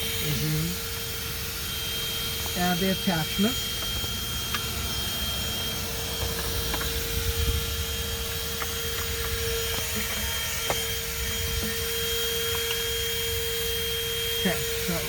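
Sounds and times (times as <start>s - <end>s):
car vacuum cleaner whine: 0.0s - 15.0s.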